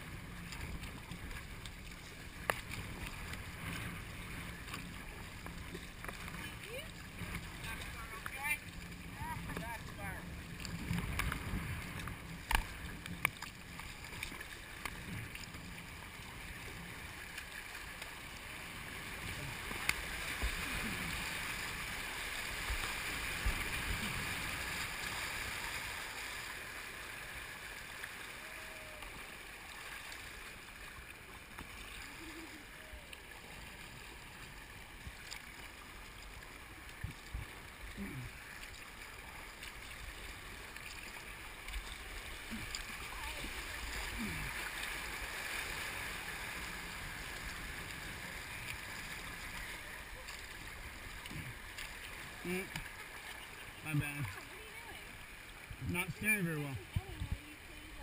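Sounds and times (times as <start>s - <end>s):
river water rushing and splashing: 0.0s - 58.0s.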